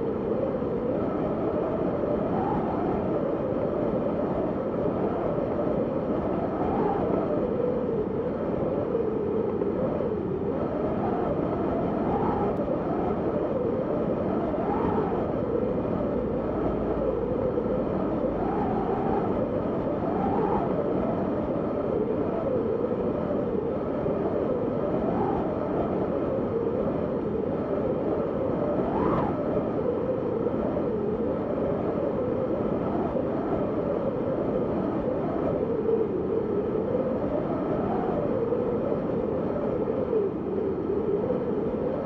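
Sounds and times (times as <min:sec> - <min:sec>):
howling wind: 0:00.0 - 0:42.0.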